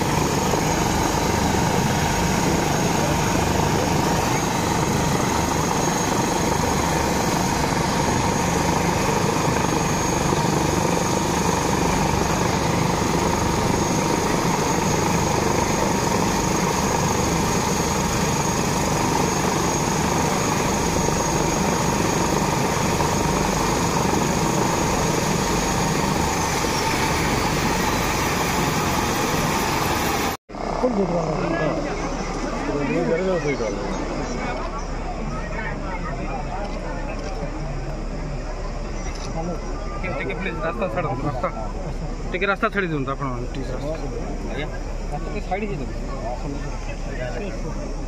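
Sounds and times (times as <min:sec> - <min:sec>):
helicopter rotor and turbine noise: 0:00.0 - 0:48.0
high turbine whine: 0:00.0 - 0:48.0.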